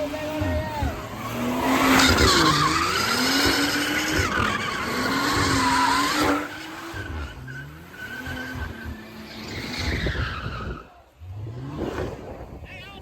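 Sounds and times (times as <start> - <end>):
tyres squealing: 0.0 - 10.9
car engine at high revs: 0.0 - 12.6.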